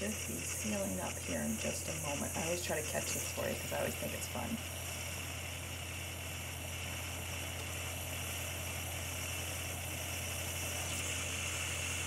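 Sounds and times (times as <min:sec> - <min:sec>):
pressure cooker hissing steam: 0:00.0 - 0:12.0.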